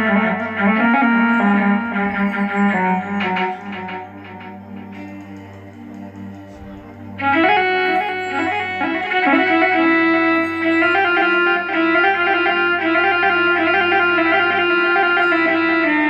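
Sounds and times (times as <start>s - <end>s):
keyboard bowed fiddle melody: 0.0s - 16.0s
sustained drone: 0.0s - 16.0s.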